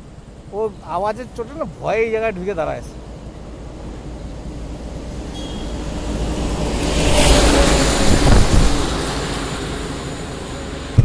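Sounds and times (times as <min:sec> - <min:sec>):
heavy trucks passing: 0:00.0 - 0:11.0.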